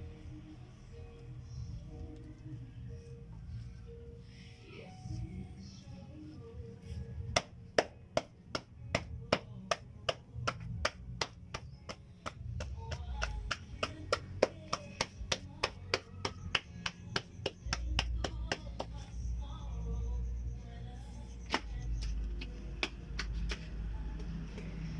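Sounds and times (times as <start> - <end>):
low background hum: 0.0 - 24.9.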